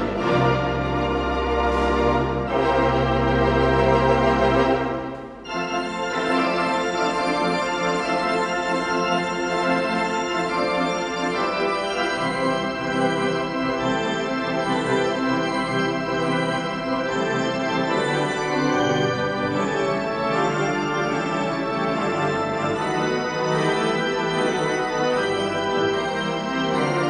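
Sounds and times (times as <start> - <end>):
pipe organ playing chords: 0.0 - 27.0.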